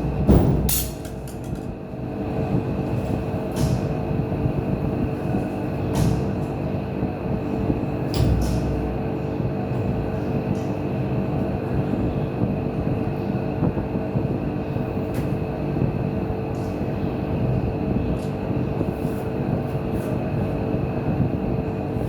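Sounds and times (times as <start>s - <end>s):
machine droning and humming: 0.0s - 22.0s.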